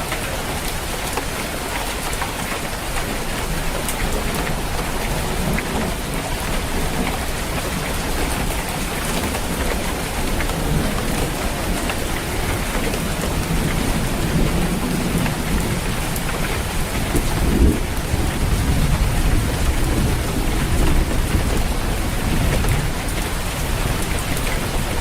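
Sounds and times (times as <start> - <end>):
heavy rain drumming on a roof: 0.0 - 25.0
low rumbling thunder: 3.5 - 25.0.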